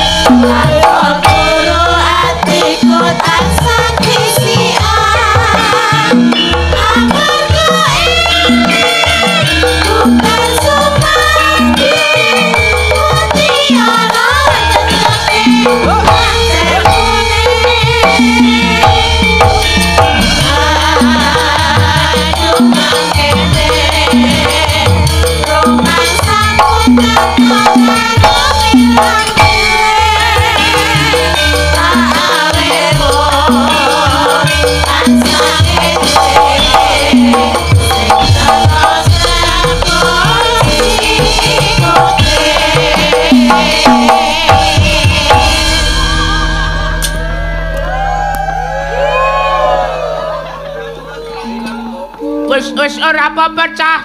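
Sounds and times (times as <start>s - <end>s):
women singing together: 0.0s - 19.1s, 20.0s - 46.9s
drum strokes: 0.0s - 52.0s.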